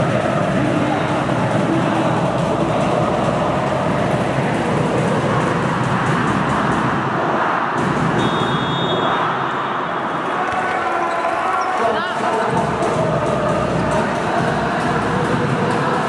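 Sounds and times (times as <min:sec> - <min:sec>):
crowd noise: 0:00.0 - 0:16.0.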